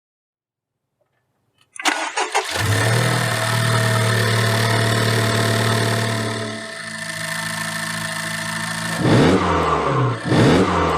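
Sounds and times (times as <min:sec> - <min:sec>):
car engine starting and idling: 0:01.7 - 0:10.9.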